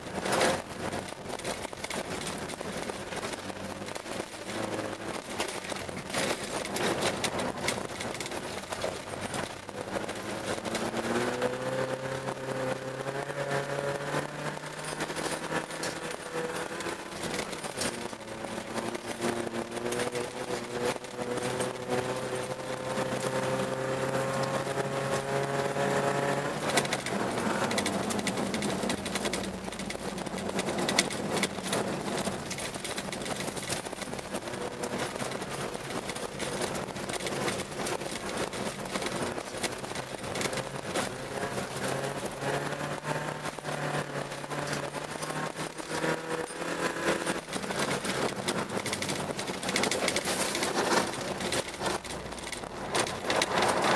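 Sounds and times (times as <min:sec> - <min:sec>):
car engine accelerating: 0:00.0 - 0:53.9
tyres rushing on snow and ice: 0:00.0 - 0:53.9
sharp ticks and knocks: 0:00.2 - 0:53.9.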